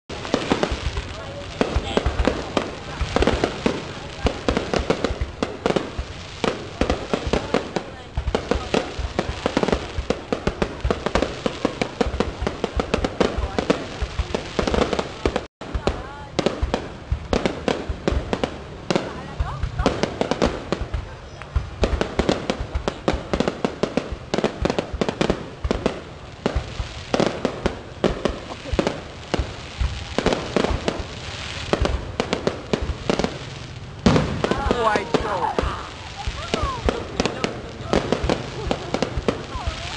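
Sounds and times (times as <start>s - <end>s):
fireworks bursting and crackling: 0.1s - 39.9s.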